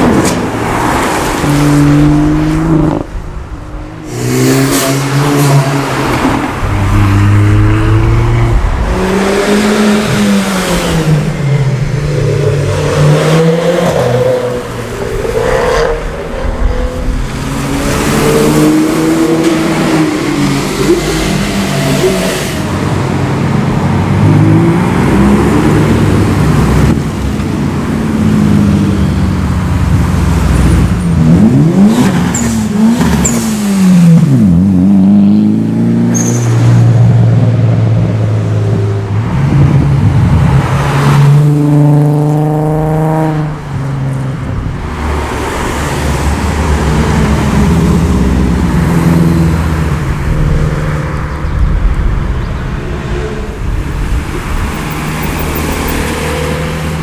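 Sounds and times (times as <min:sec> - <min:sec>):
cars driving past at speed: 0:00.0 - 0:57.0.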